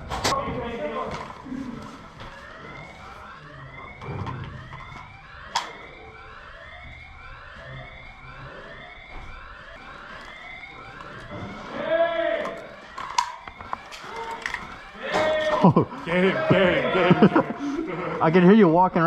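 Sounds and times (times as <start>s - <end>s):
siren rising sweeps: 0.3s - 19.0s.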